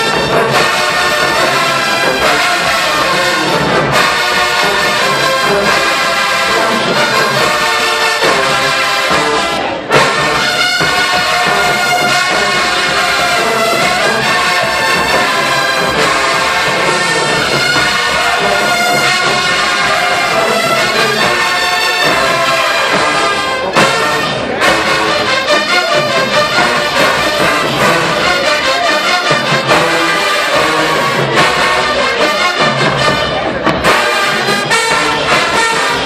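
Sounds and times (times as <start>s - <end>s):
marching band brass playing: 0.0s - 36.0s.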